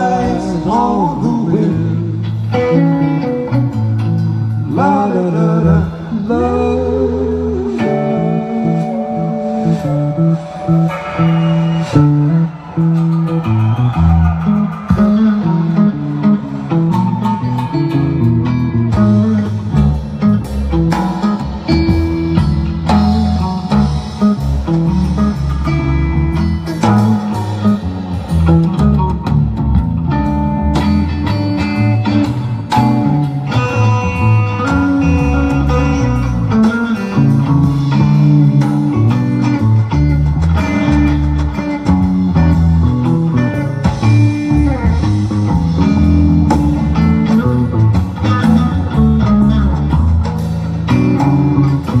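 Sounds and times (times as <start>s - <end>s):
bass line: 0.0s - 52.0s
guitar lines: 0.0s - 52.0s.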